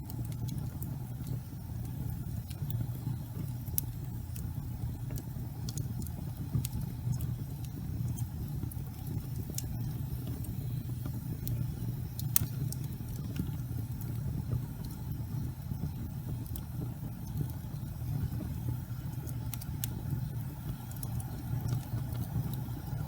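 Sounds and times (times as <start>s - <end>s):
fire crackles and pops: 0.0s - 23.0s
fireplace fire burning: 0.0s - 23.0s.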